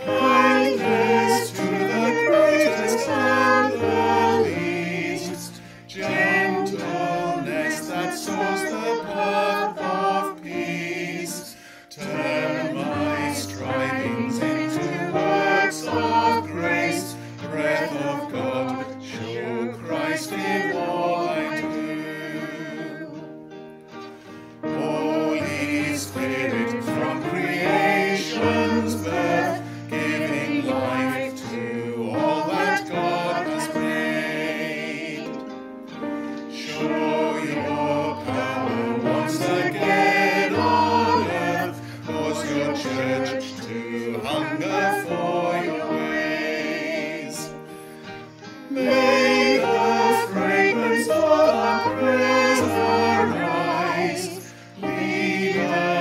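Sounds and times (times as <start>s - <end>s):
hymn sung with instruments: 0.0s - 56.0s.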